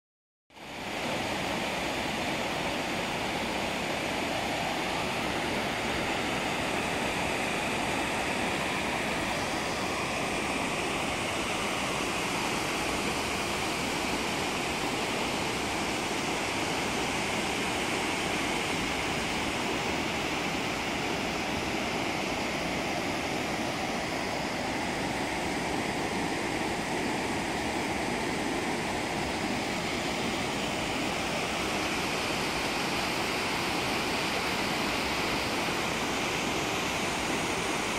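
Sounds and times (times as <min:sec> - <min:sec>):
waterfall rushing: 0:00.6 - 0:37.9.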